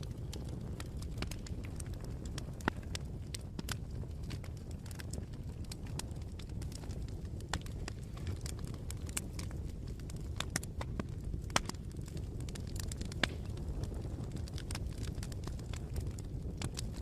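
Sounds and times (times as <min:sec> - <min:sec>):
bonfire crackling and popping: 0:00.0 - 0:17.0
steady low rumble: 0:00.0 - 0:17.0.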